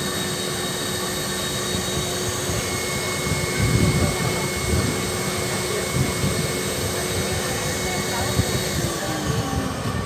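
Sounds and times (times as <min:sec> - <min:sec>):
vending machine whooshing hum: 0:00.0 - 0:10.0.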